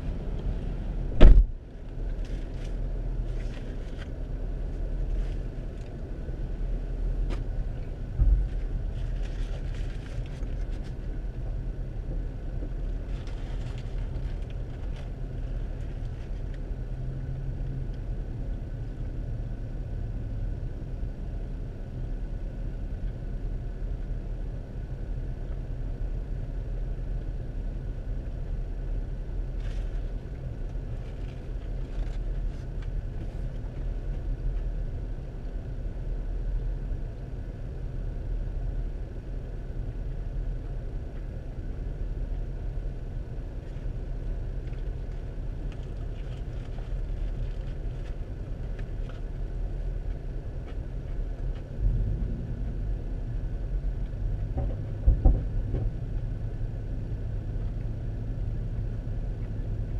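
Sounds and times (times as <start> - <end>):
car cabin rumble: 0.0 - 59.9.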